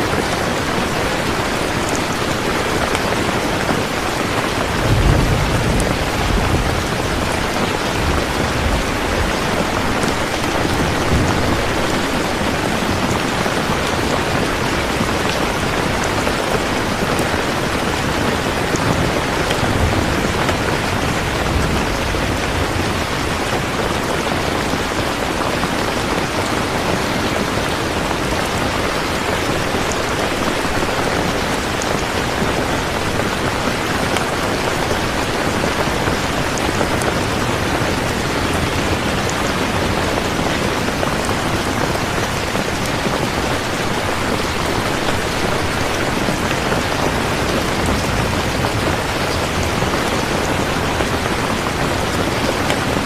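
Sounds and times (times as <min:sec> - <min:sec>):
heavy rain hissing: 0:00.0 - 0:53.0.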